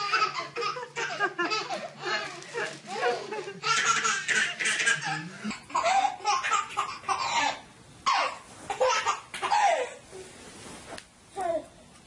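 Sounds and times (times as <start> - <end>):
baby laughing: 0.0 - 10.0.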